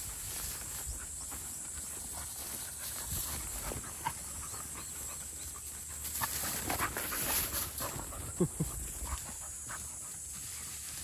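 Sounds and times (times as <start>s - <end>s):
puppies scuffling in grass: 0.0s - 11.0s.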